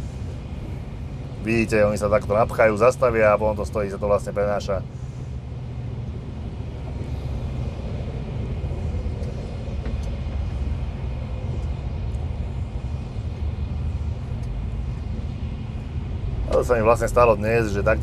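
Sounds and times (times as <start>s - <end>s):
diesel engine rumble from cab: 0.0s - 18.0s
road noise: 0.0s - 18.0s.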